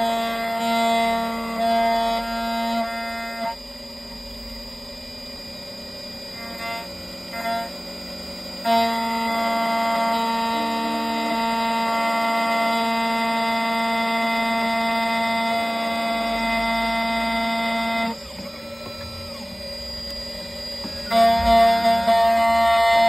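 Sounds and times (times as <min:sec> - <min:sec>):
key-cutting machine motor whine: 0:00.0 - 0:23.0.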